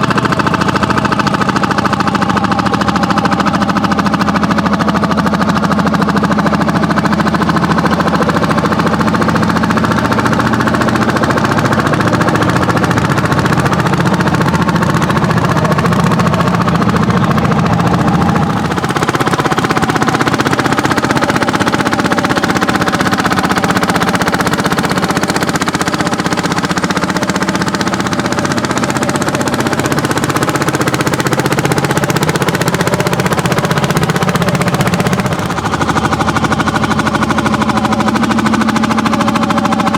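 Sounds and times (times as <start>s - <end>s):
tractor engines exhaust beats: 0.0s - 39.9s.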